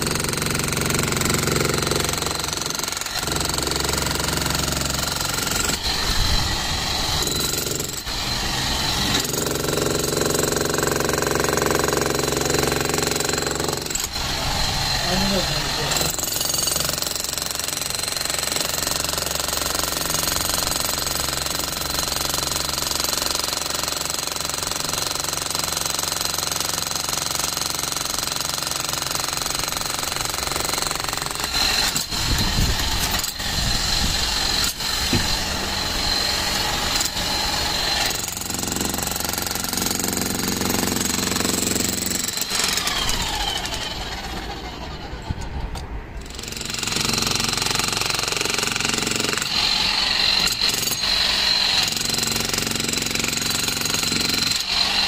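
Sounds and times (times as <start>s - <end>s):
demolition hammer chiselling concrete: 0.0s - 44.8s, 46.2s - 55.0s.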